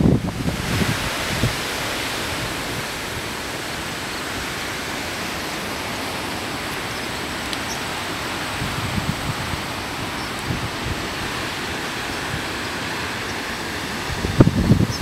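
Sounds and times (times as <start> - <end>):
hurricane wind and surf rushing: 0.0 - 15.0
wind buffeting microphone: 0.0 - 15.0.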